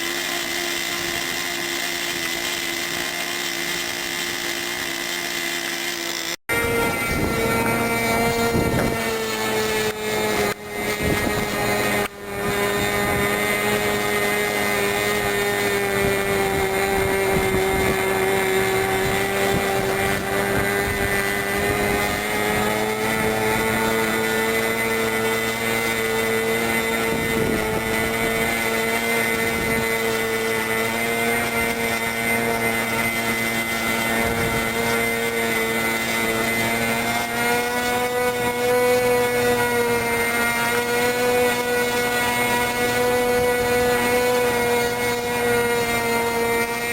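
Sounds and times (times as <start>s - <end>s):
model airplane engine running: 0.0s - 46.9s.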